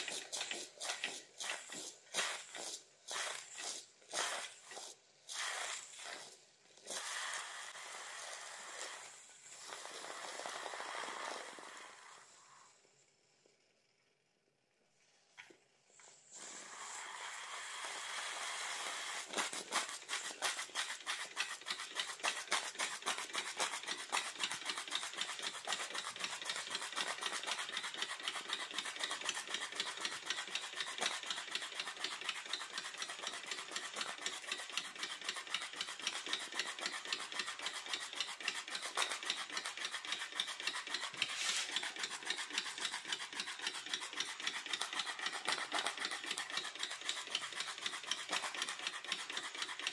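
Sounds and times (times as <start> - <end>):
steam engine chuffing: 0.0 - 9.2, 17.6 - 49.9
steam hissing: 0.0 - 12.8, 16.2 - 49.9.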